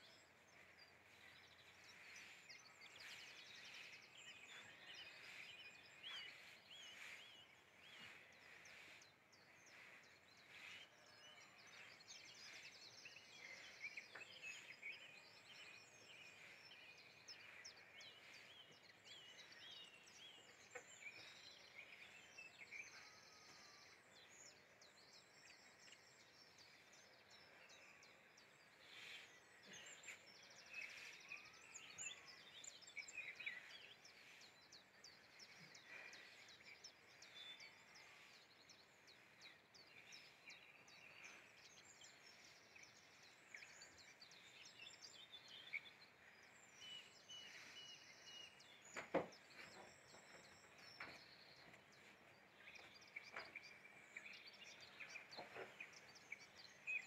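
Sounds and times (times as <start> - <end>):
small birds chirping and whistling: 0.0 - 57.0.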